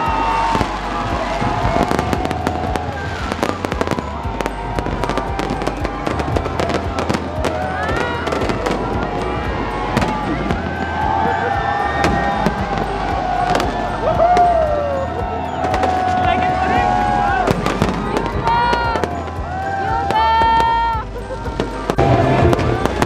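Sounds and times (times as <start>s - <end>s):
crowd voices: 0.0s - 23.0s
fireworks bangs and cracks: 0.0s - 23.0s.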